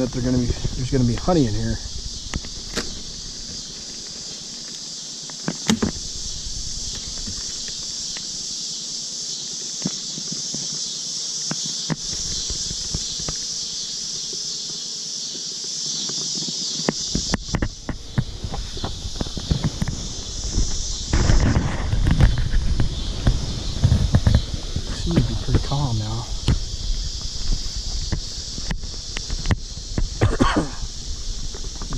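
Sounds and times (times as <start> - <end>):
high-pitched insect chorus: 0.0 - 31.9
knocks and scrapes on wooden beehive: 0.0 - 31.9.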